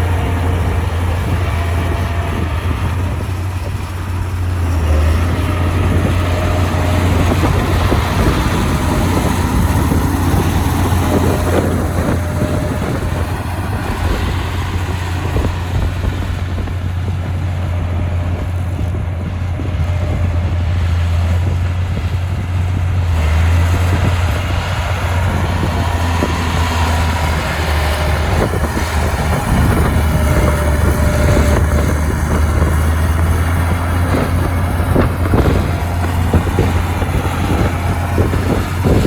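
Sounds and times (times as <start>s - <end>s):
heavy diesel engine droning: 0.0s - 39.0s.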